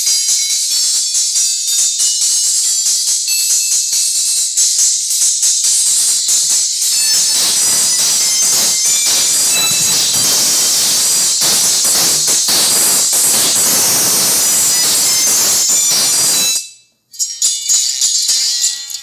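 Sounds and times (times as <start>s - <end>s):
thin high-pitched music sizzle: 0.0s - 19.0s.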